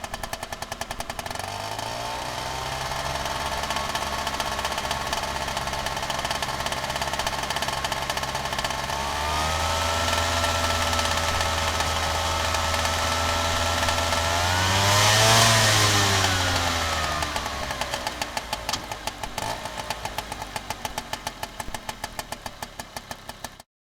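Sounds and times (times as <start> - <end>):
scooter engine running: 0.0 - 23.6.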